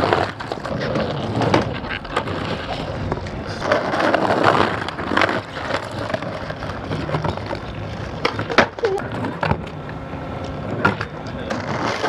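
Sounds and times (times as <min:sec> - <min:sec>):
skateboard clacking on ground: 0:00.0 - 0:12.0
skateboard wheels rolling on asphalt: 0:00.0 - 0:12.0.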